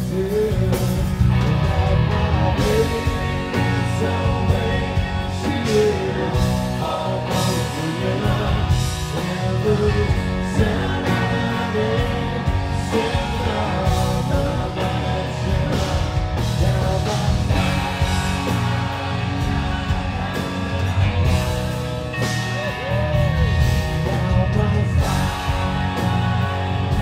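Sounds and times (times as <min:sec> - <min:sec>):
man singing: 0:00.0 - 0:27.0
rock band playing live: 0:00.0 - 0:27.0.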